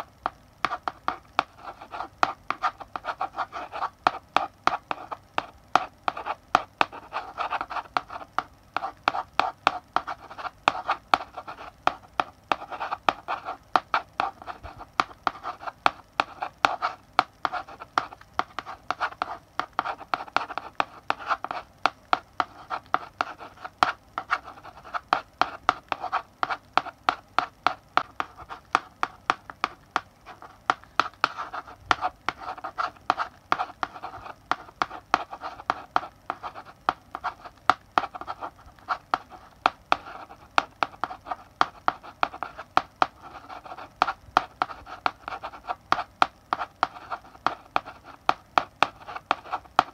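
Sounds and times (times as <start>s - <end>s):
chalk writing on blackboard: 0.0s - 49.9s.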